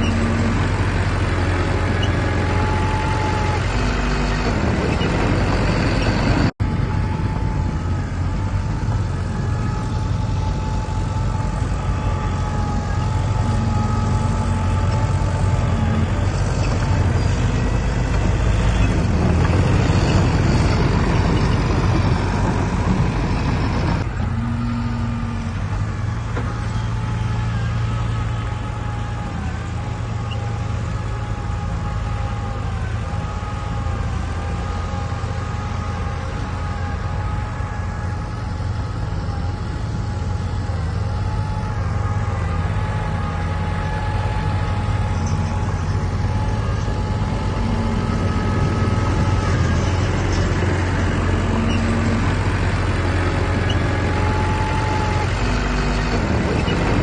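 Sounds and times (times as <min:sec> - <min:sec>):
diesel machinery engine drone: 0:00.0 - 0:57.0
wavering whine: 0:00.0 - 0:57.0.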